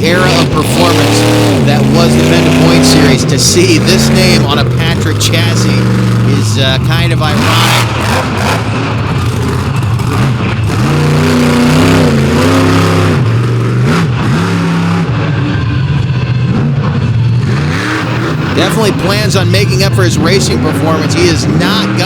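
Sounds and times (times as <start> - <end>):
monster truck engine revving: 0.0 - 22.0.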